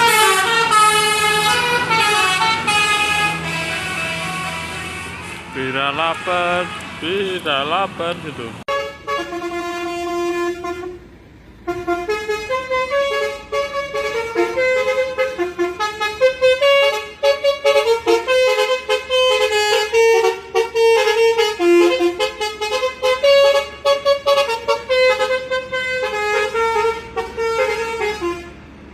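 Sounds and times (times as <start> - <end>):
multi-tone bus horn tune: 0.0 - 28.9.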